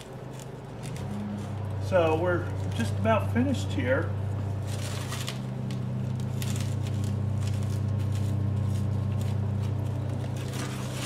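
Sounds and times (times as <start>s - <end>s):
hands rustling potting mix: 0.0s - 11.0s
steady low hum: 0.0s - 11.0s.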